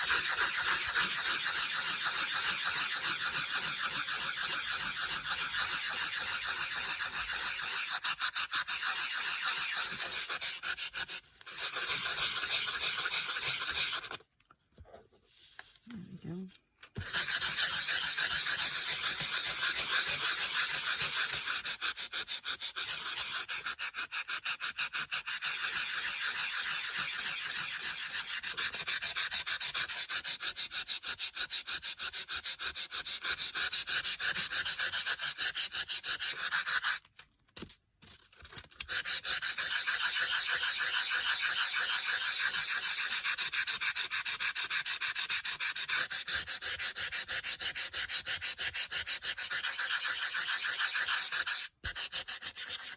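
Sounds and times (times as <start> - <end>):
sanding block scratching cardstock: 0.0 - 14.2, 17.0 - 37.1, 38.4 - 52.9.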